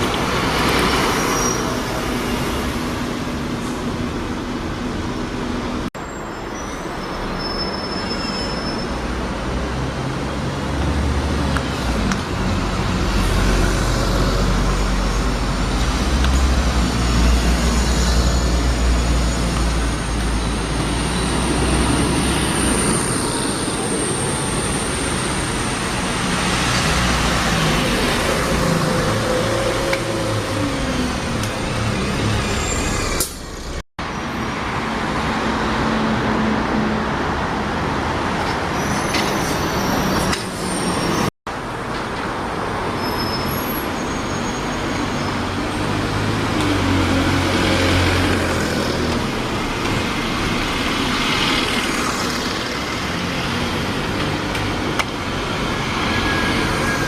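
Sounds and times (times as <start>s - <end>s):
buses passing in traffic: 0.0s - 57.0s.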